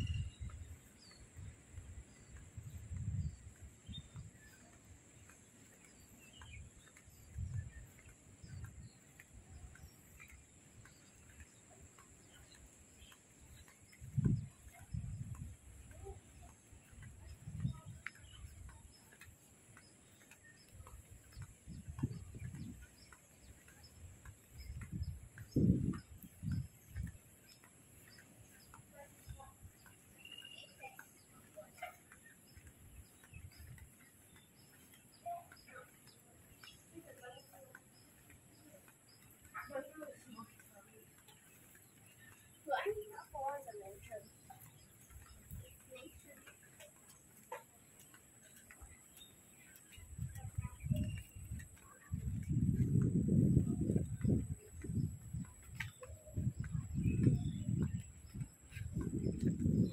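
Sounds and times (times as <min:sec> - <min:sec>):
faint bird chirps: 0:00.0 - 0:59.9.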